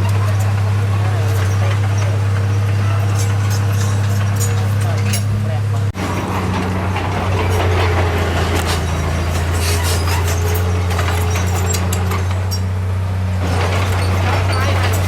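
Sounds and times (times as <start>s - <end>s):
metal rattles and clanks: 0.0s - 12.8s, 13.4s - 15.0s
heavy diesel engine running: 0.0s - 15.0s.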